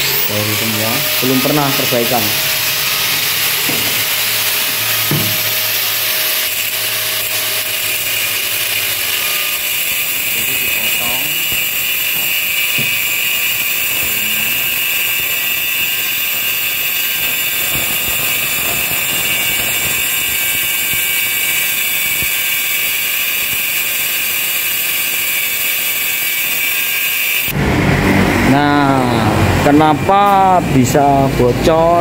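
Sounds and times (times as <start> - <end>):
angle grinder cutting metal: 0.0 - 32.0.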